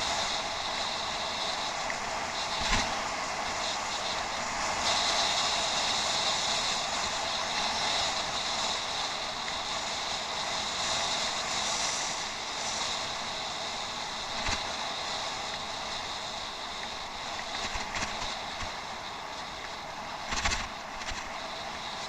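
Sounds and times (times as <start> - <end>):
wind and tyre noise cycling: 0.0 - 22.0.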